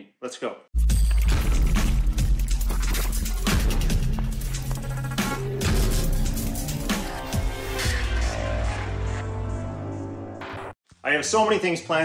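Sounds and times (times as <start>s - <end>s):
electronic intro music: 0.8s - 10.8s.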